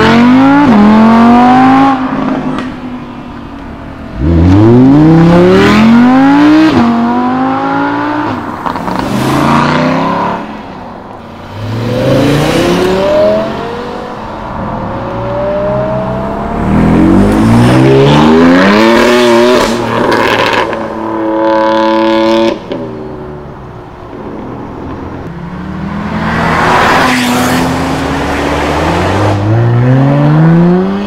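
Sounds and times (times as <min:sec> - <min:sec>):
car passing: 0:00.0 - 0:22.8, 0:24.2 - 0:31.0
sports car engines accelerating: 0:00.0 - 0:31.0.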